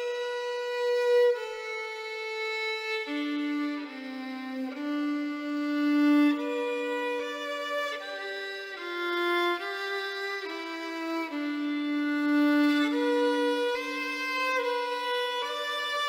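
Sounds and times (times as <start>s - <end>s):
violin playing slow melody: 0.0s - 16.0s.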